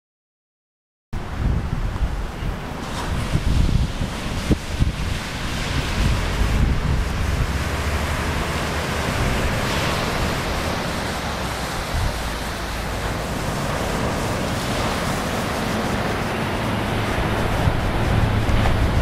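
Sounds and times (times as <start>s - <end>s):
ocean surf breaking: 1.2s - 19.0s
wind gusting against microphone: 1.2s - 19.0s.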